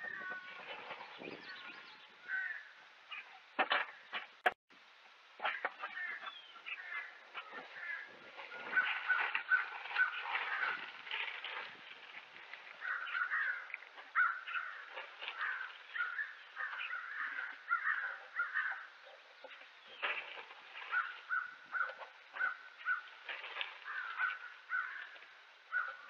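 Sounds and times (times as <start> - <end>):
birds calling: 0.0 - 4.6, 5.4 - 26.0.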